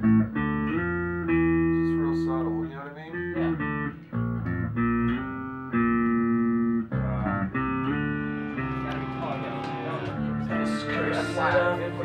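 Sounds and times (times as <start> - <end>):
guitar playing: 0.0 - 12.0.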